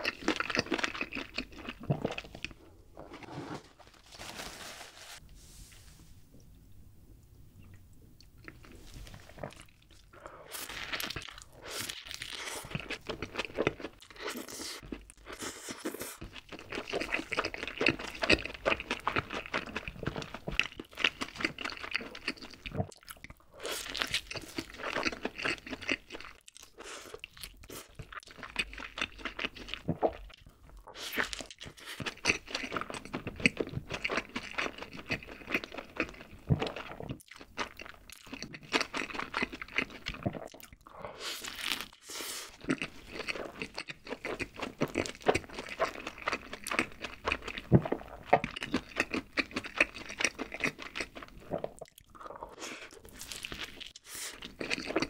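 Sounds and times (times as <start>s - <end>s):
wet chewing with crackles: 7.6s - 55.0s.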